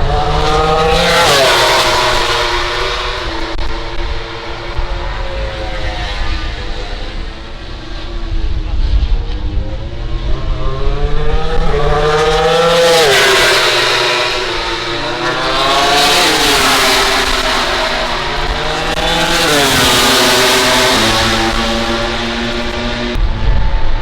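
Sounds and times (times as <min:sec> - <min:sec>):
racing motorcycles passing: 0:00.0 - 0:23.2.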